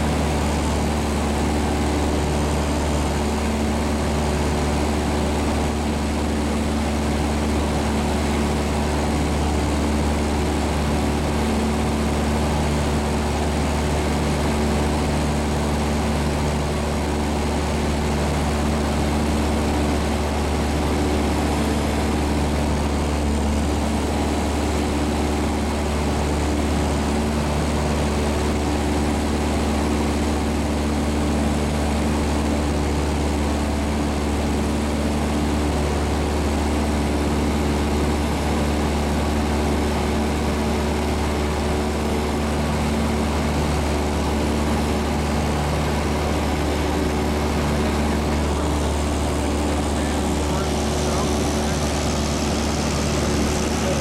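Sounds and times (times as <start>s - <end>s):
propeller engine hum in cabin: 0.0s - 54.0s.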